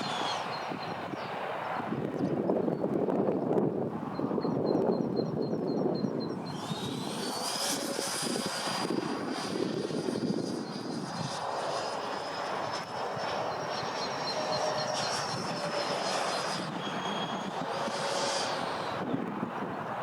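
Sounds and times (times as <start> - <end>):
electric ducted fans whining: 0.0 - 20.0
low rushing wind: 0.0 - 20.0.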